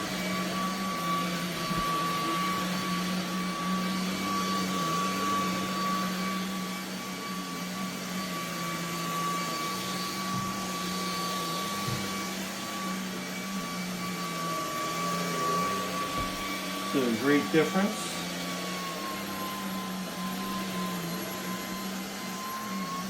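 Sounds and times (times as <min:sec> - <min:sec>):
vacuum cleaner whine and hum: 0:00.0 - 0:23.0.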